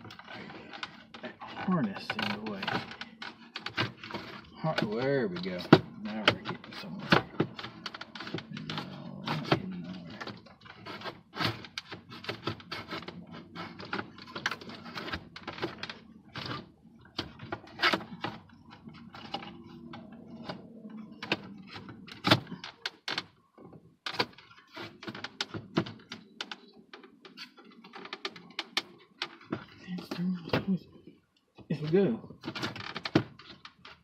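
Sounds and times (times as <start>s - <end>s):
plastic dash trim clicks and rattles: 0.0s - 34.0s.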